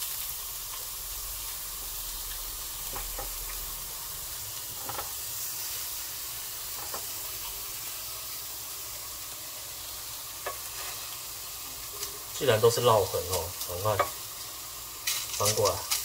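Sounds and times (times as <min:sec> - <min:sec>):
scallops sizzling on a grill pan: 0:00.0 - 0:16.0.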